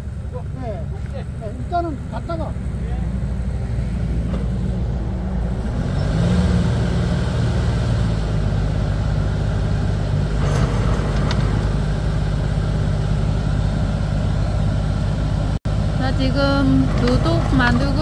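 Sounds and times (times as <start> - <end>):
machine engine running: 0.0 - 18.0.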